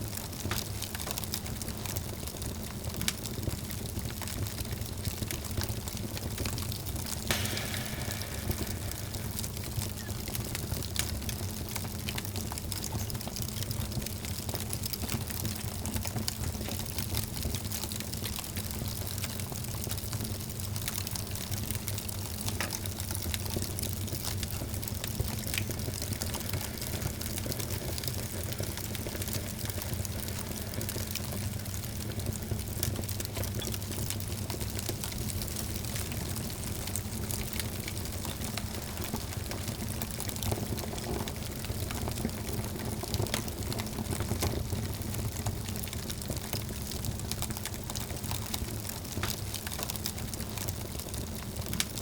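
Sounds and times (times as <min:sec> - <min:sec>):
wood fire crackling in fireplace: 0:00.0 - 0:52.0.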